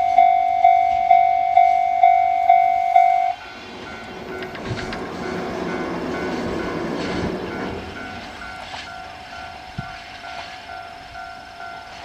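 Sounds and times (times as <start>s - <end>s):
freight train wagons rumbling: 0.0s - 12.0s
level crossing bell ringing: 0.0s - 12.0s.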